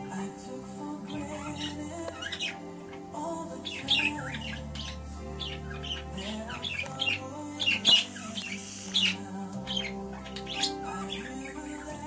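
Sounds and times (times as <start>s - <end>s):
background music: 0.0s - 12.0s
budgerigar chirping: 1.1s - 11.8s.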